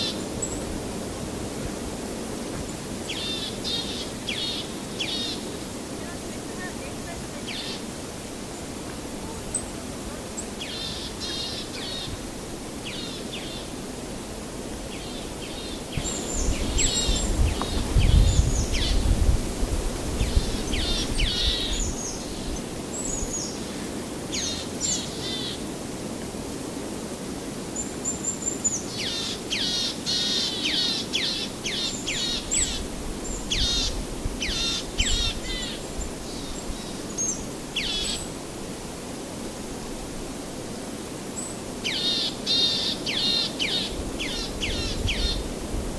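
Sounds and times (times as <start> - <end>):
steady outdoor hiss: 0.0 - 45.9.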